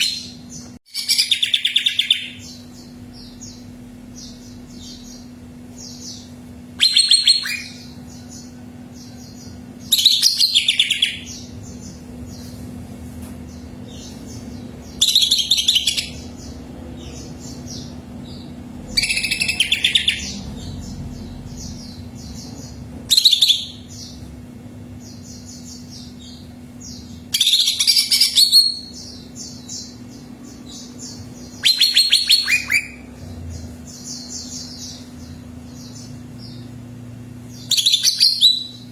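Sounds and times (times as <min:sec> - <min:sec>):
bird singing chattering notes: 0:00.0 - 0:12.4, 0:13.5 - 0:24.3, 0:25.0 - 0:36.8, 0:37.4 - 0:38.9
steady low hum: 0:00.0 - 0:38.9.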